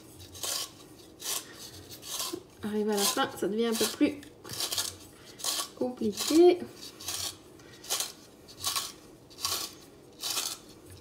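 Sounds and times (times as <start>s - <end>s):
spiralizer scraping carrot: 0.0s - 11.0s.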